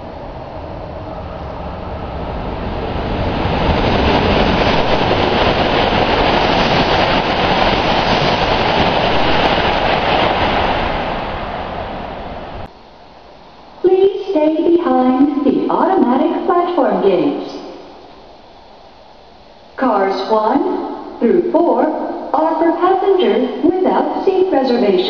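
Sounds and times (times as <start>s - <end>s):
high-speed train passing: 0.0s - 25.0s.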